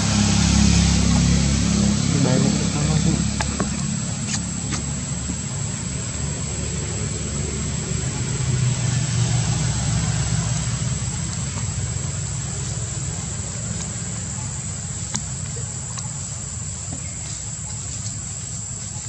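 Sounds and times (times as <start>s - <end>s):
low motor rumble: 0.0s - 19.0s.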